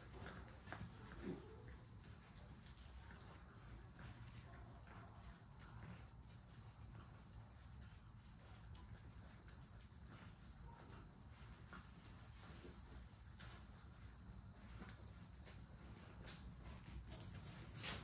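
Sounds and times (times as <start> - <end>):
faint high whine: 0.0 - 18.0
puppies rustling in wood shavings: 0.0 - 18.0.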